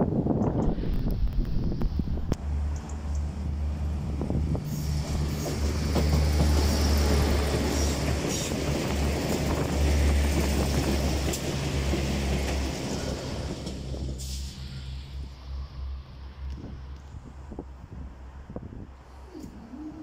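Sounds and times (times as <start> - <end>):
train wheel and rail noise: 0.0 - 20.0.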